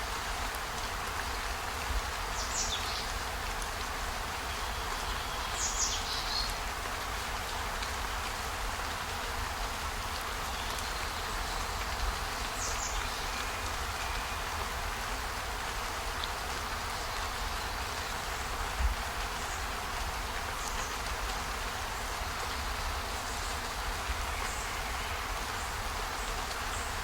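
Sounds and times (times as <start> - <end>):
steady hiss with low rumble: 0.0 - 27.0.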